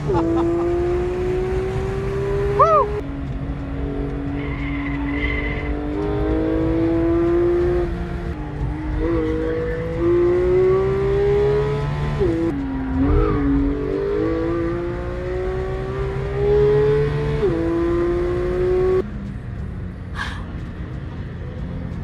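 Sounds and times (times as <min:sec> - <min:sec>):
car engine revving through gears: 0:00.0 - 0:19.4.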